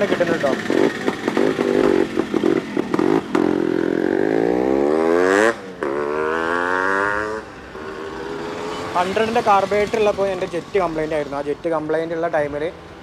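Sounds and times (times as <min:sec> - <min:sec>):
two-stroke motorcycle engine revving: 0:00.0 - 0:10.9.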